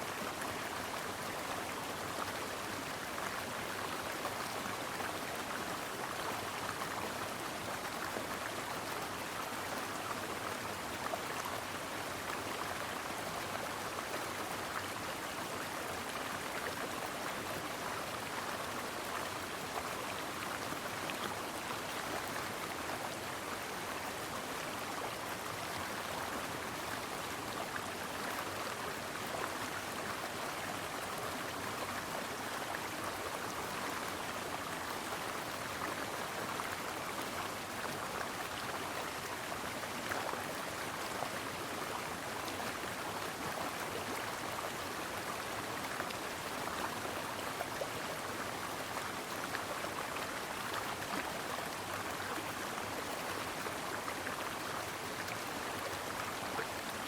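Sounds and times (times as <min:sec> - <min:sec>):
brook water over rocks: 0:00.0 - 0:57.0.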